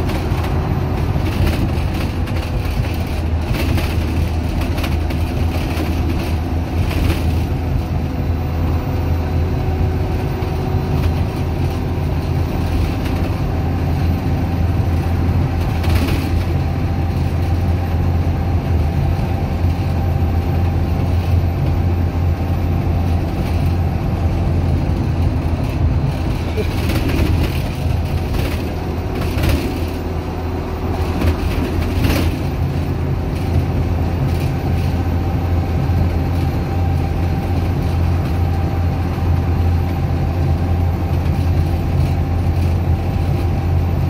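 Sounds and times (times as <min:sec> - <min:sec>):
bus diesel engine running: 0:00.0 - 0:44.0.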